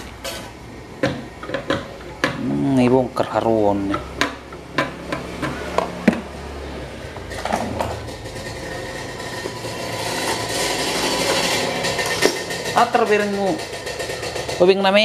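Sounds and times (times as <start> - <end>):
steady fan noise: 0.0 - 15.0.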